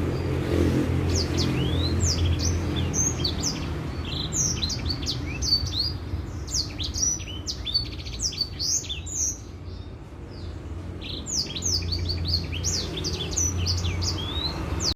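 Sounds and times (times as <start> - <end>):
finch twittering song: 0.0 - 14.9.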